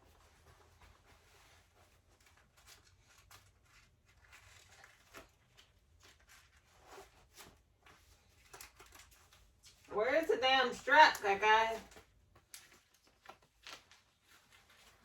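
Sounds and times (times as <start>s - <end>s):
rustling of fabric and straps: 0.0s - 15.0s.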